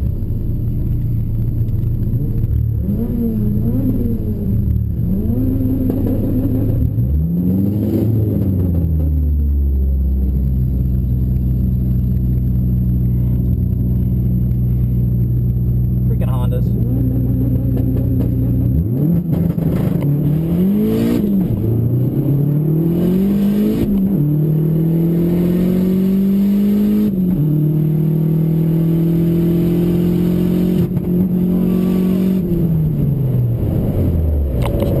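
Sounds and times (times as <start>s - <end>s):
drag car engine accelerating: 0.0s - 35.0s.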